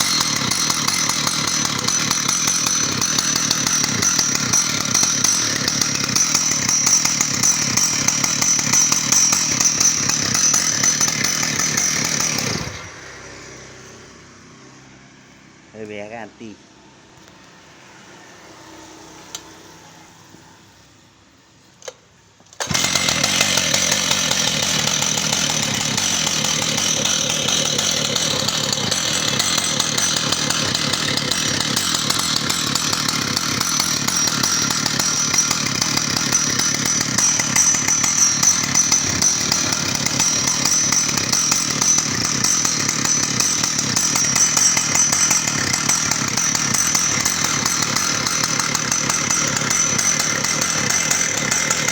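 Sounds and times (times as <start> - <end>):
chainsaw running at high speed: 0.0 - 14.7, 22.6 - 51.9.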